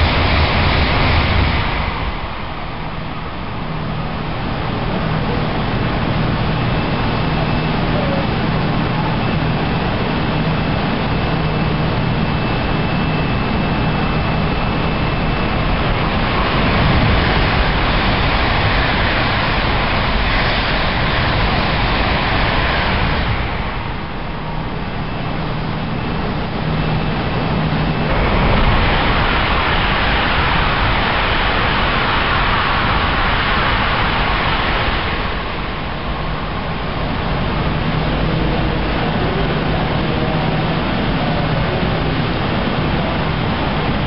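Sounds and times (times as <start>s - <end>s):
faint high whine: 0.0s - 44.0s
high-speed train passing: 0.0s - 44.0s.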